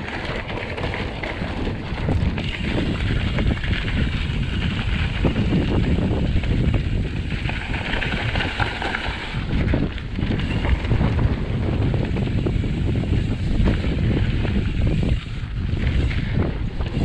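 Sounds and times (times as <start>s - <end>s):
bike clicks and rattles: 0.0s - 17.0s
tyres on loose dirt and gravel: 0.0s - 17.0s
wind buffeting camera: 0.0s - 17.0s.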